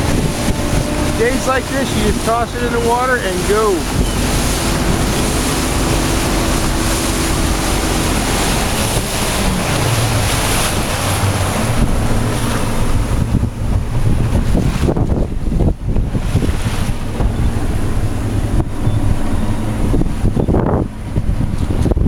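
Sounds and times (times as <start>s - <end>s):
boat engine running: 0.0s - 22.0s
waves slapping a boat: 0.0s - 22.0s
wind buffeting microphone: 0.0s - 22.0s.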